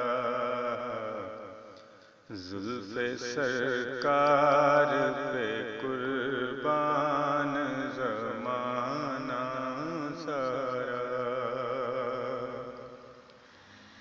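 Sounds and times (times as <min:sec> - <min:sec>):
person singing devotional song: 0:00.0 - 0:01.5, 0:02.3 - 0:13.4.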